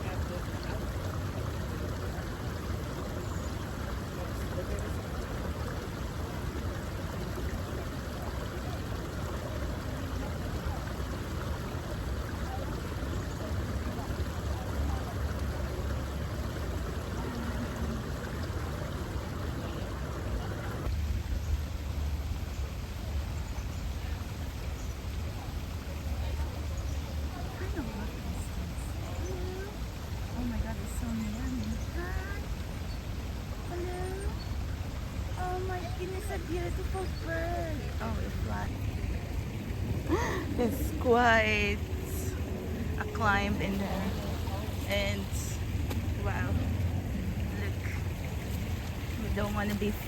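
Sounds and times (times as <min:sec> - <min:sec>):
brook water running over rocks: 0:00.0 - 0:50.0.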